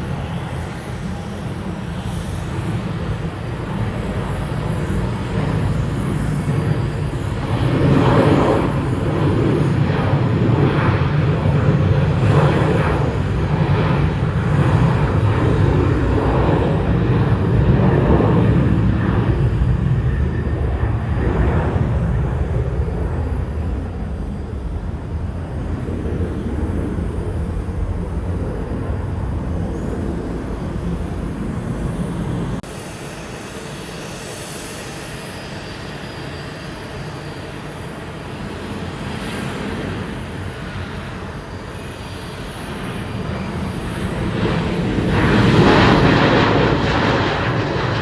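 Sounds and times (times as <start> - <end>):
approaching jet: 0.0 - 48.0
jet engine rumble: 0.0 - 48.0.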